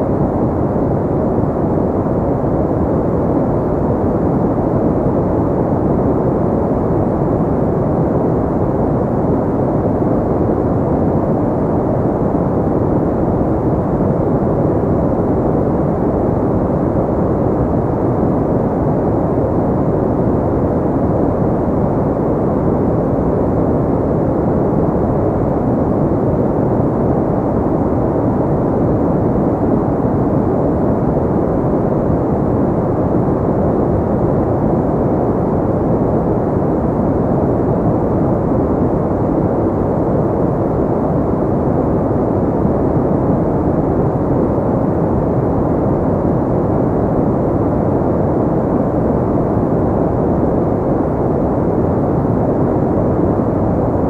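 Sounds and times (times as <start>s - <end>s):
deep white noise rush: 0.0s - 54.0s.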